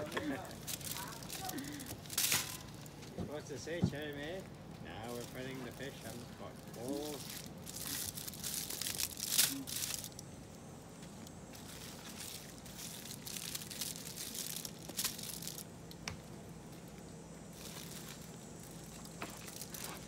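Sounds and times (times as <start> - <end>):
aluminium foil crinkling: 0.0 - 3.1, 4.0 - 16.0, 16.7 - 20.0.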